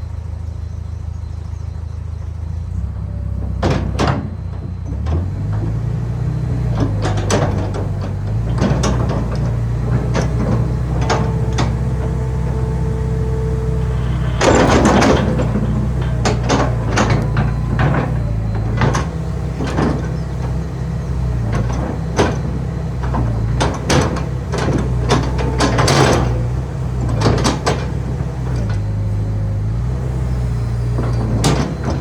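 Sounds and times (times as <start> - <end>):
excavator diesel engine droning: 0.0 - 32.0
machine knocks and clanks: 3.3 - 32.0.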